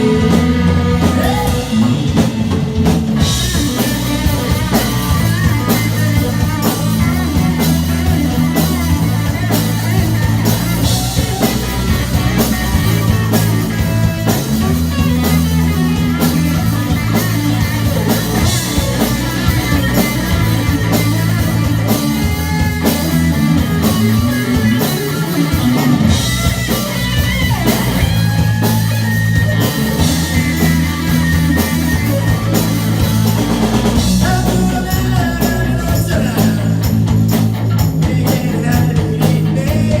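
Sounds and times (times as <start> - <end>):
bass guitar: 0.0 - 40.0
drum kit: 0.0 - 40.0
electric guitars: 0.0 - 40.0.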